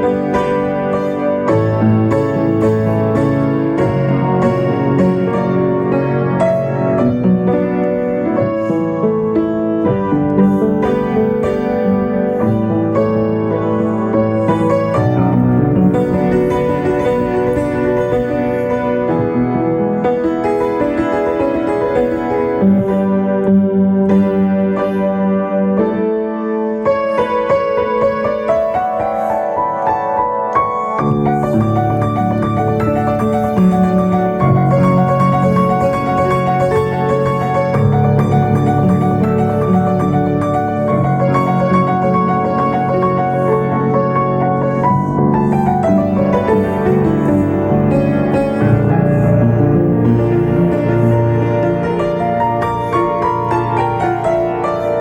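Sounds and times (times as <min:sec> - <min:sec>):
piano playing slow chords: 0:00.0 - 0:55.0.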